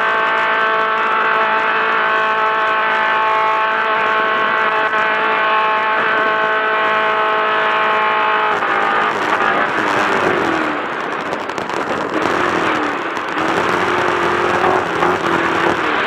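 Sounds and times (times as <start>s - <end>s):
race car engine running: 0.0s - 16.0s.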